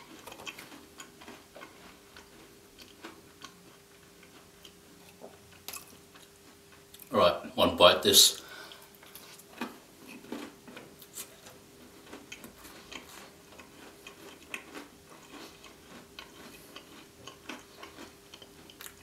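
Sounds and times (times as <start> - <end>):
chewing with lips closed: 0.0 - 7.1, 8.7 - 19.0.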